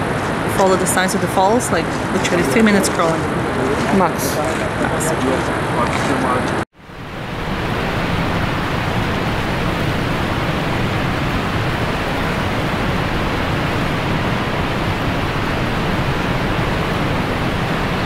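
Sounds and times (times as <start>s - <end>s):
large waterfall rushing: 0.0s - 18.0s.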